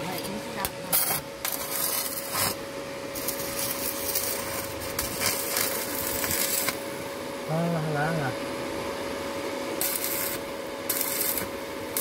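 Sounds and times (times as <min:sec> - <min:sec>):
welding arc crackling: 0:00.0 - 0:08.3, 0:09.7 - 0:12.0.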